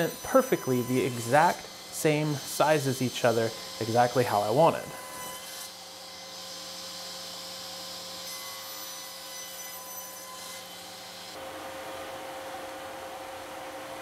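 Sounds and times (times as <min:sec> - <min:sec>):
table saw cutting wood: 0:00.0 - 0:14.0.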